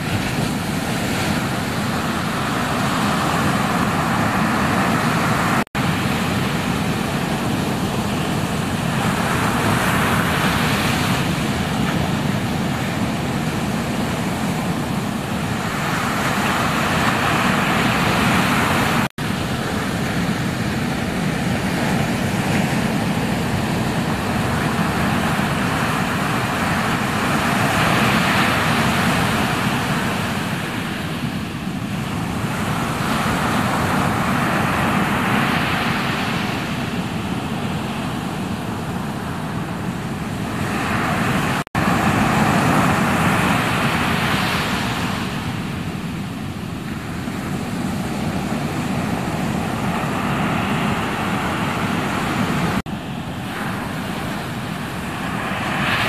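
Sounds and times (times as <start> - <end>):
ocean surf roaring: 0.0 - 56.0.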